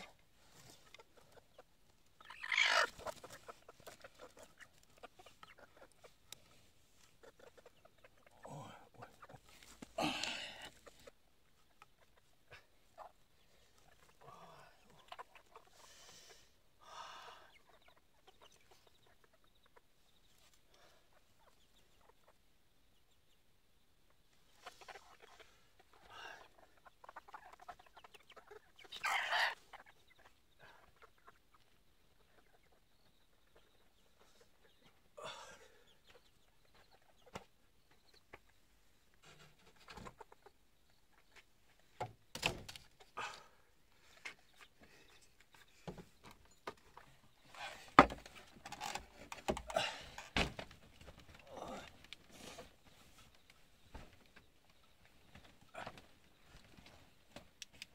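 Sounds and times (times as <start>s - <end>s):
chicken clucking and squawking: 0.0s - 57.9s.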